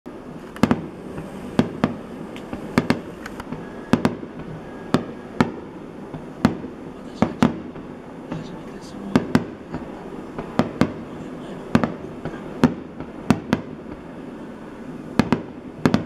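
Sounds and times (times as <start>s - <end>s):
firework shells bursting: 0.3s - 14.2s, 15.1s - 16.0s.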